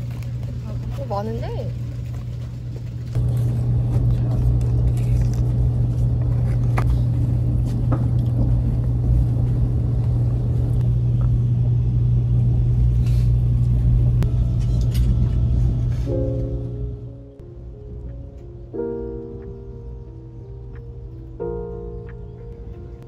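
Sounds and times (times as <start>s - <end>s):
low hum: 0.0s - 23.0s
moving vehicle rumble: 0.0s - 23.0s.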